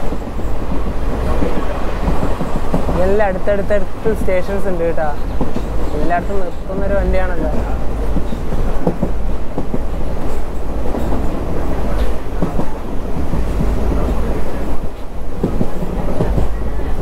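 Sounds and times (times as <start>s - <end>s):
train coaches rumbling: 0.0s - 17.0s.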